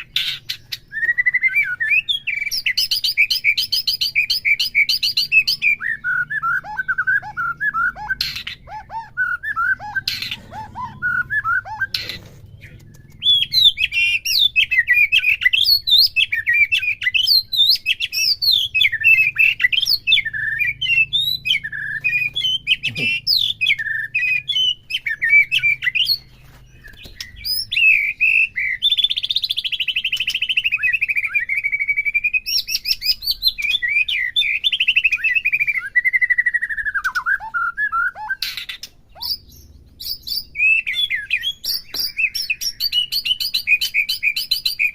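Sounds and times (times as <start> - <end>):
bird singing chirps and whistles: 0.0 - 44.9.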